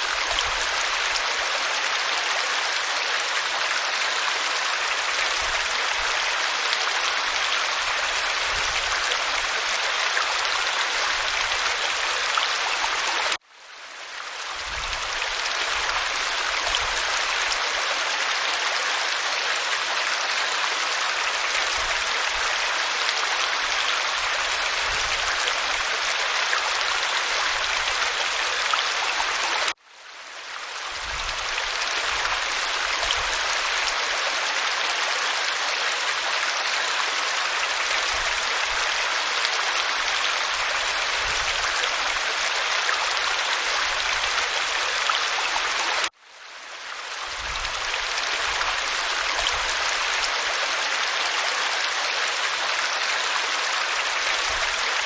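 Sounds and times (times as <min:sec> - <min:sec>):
waterfall pouring over rock: 0:00.0 - 0:13.4, 0:14.0 - 0:29.8, 0:30.4 - 0:46.2, 0:46.8 - 0:55.0.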